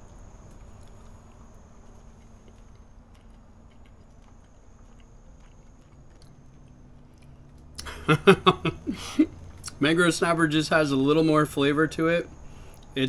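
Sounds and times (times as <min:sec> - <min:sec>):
man chewing: 0:00.0 - 0:09.8, 0:12.3 - 0:13.0.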